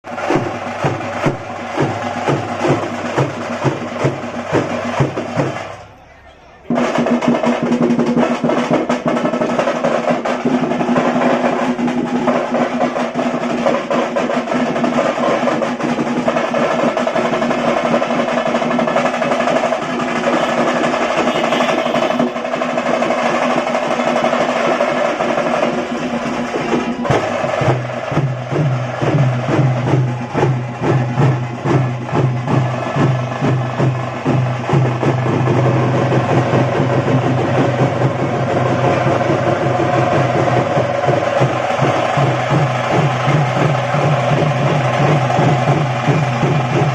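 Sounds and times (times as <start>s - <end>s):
frame drums playing fast rhythm: 0.0s - 5.8s, 6.6s - 46.9s.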